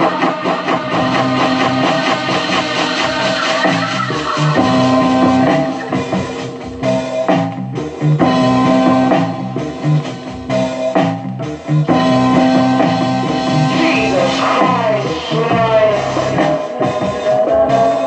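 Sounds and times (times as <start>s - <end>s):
rock music with guitar and drums: 0.0s - 18.0s.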